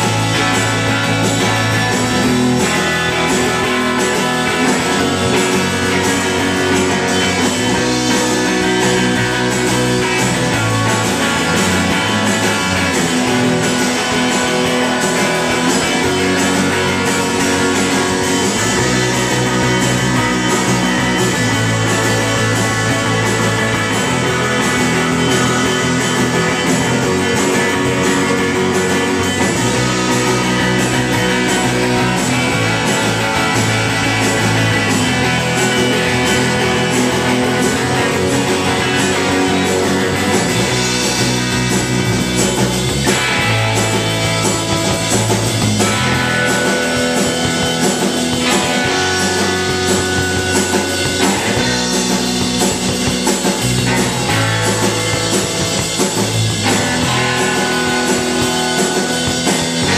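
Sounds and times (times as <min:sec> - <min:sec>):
bass guitar: 0:00.0 - 0:59.9
drum kit with cymbals: 0:00.0 - 0:59.9
electric guitar: 0:00.0 - 0:59.9.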